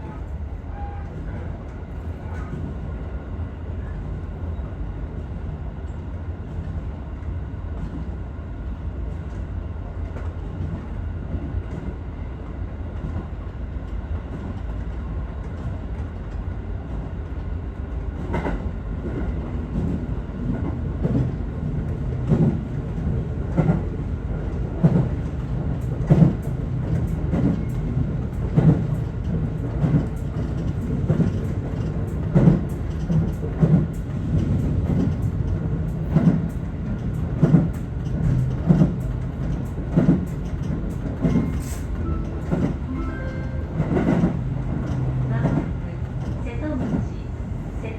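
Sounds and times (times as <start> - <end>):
electric train rumbling: 0.0 - 47.9.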